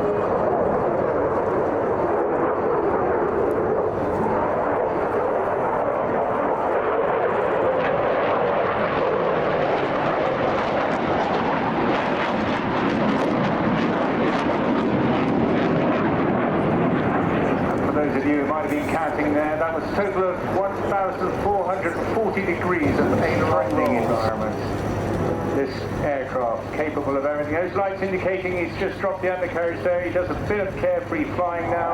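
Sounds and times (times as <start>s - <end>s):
fighter jet roaring: 0.0s - 31.9s.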